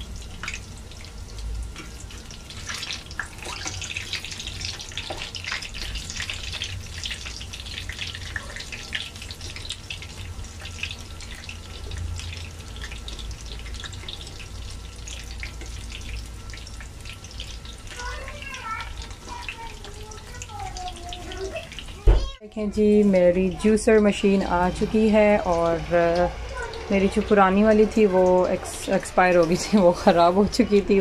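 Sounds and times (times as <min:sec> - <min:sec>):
hot oil sizzling and crackling: 0:00.0 - 0:31.0.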